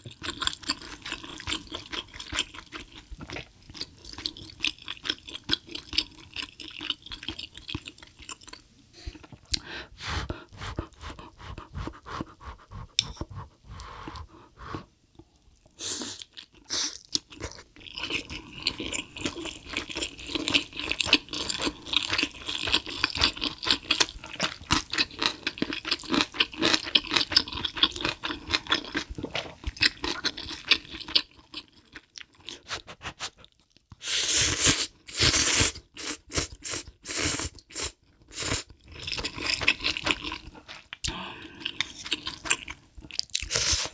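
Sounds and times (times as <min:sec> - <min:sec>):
chewing and crunching food: 0:00.0 - 0:34.0, 0:34.6 - 0:43.9.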